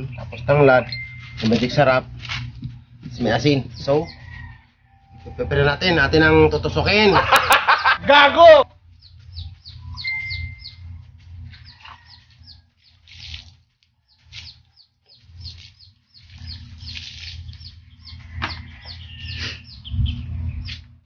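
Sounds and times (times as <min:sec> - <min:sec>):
birds peeping: 0:00.0 - 0:07.1, 0:08.7 - 0:21.0
steady low rumble: 0:00.0 - 0:13.4, 0:15.2 - 0:21.0.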